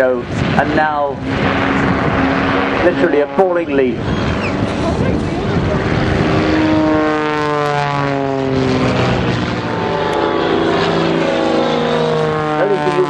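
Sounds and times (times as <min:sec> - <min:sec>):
propeller aircraft engine in flight: 0:00.0 - 0:13.0.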